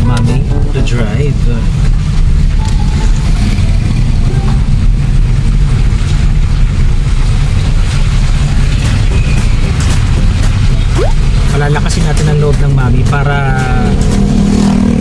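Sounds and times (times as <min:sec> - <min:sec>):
car interior road rumble: 0:00.0 - 0:14.6.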